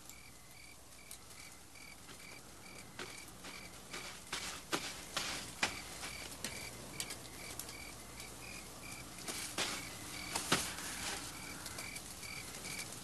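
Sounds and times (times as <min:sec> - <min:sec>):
crickets chirping: 0:00.0 - 0:13.0
sharp snaps and rustles: 0:00.8 - 0:13.0.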